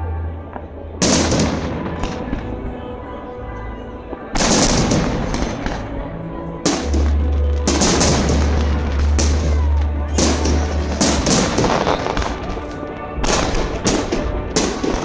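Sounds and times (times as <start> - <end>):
background music: 0.0 - 15.0
fireworks booming and crackling: 0.4 - 3.0, 4.1 - 15.0.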